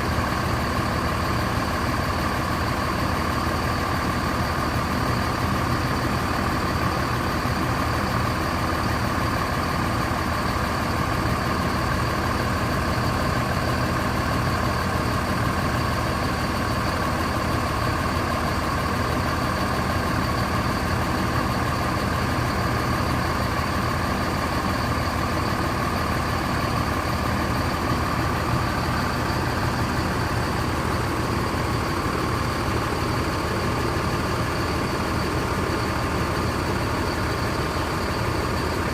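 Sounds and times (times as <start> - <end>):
diesel bus engine idling: 0.0 - 38.9.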